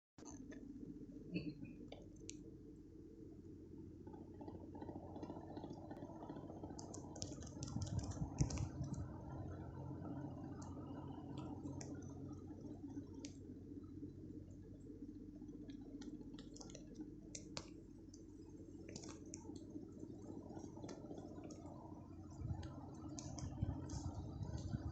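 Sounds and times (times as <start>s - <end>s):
ceiling fan humming: 0.3s - 24.9s.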